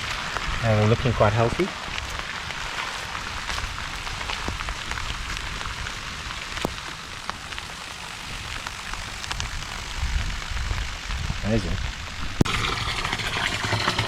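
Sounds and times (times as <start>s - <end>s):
rain on plants and ground: 0.0s - 14.0s.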